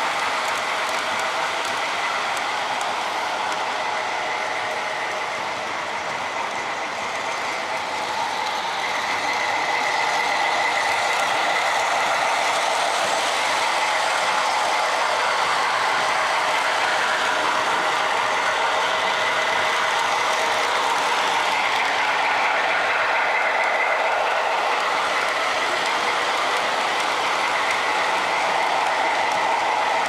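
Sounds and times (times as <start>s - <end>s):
model train whirring and rattling: 0.0s - 30.0s.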